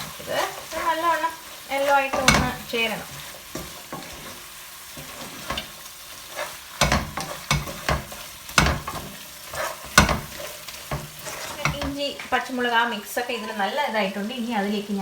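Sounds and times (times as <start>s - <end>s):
utensil scraping a frying pan: 0.0s - 12.3s
food sizzling: 0.0s - 15.0s.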